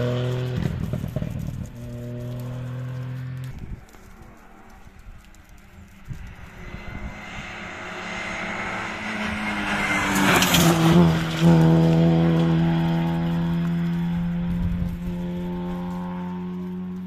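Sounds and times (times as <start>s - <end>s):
rally car engine approaching: 0.0s - 17.0s.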